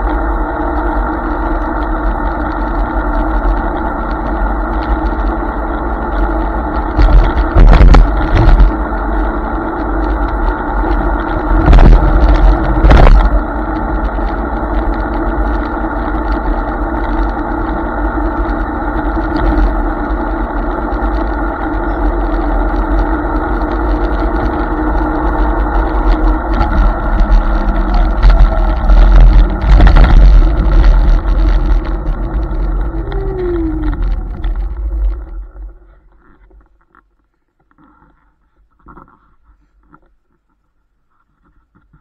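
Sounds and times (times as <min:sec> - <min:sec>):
electric scooter motor whining: 0:00.0 - 0:36.6
road rumble: 0:00.0 - 0:36.7
wind: 0:00.0 - 0:42.0.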